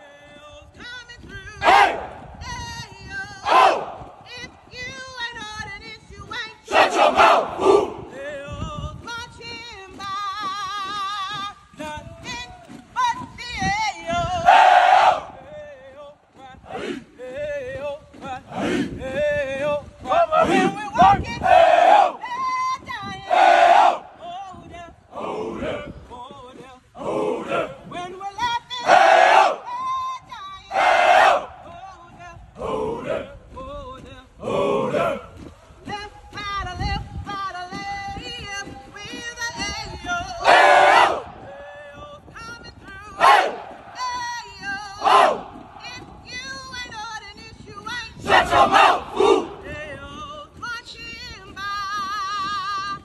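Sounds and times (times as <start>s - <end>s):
marching boots: 0.0s - 53.0s.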